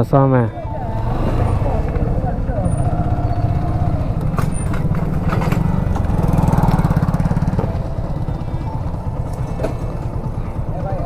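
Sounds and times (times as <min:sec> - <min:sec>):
motorcycle engine idling: 0:00.5 - 0:11.0.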